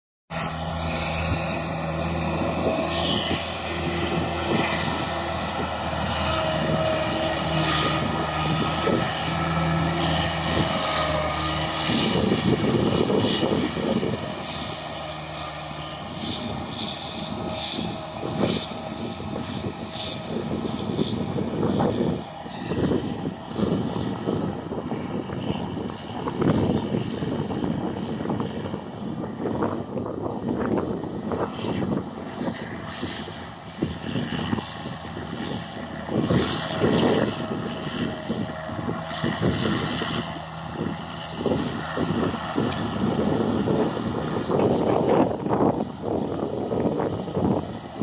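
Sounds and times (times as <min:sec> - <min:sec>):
tractor engine droning: 0:00.3 - 0:48.0.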